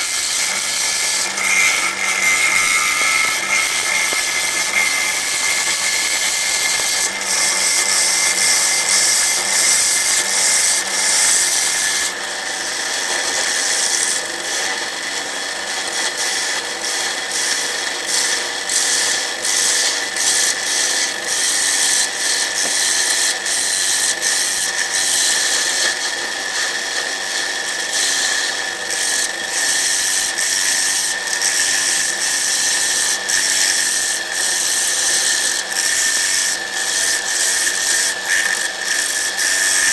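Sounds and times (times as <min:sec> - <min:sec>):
gouge cutting wood on lathe: 0:00.0 - 0:39.9
lathe whine: 0:00.0 - 0:39.9.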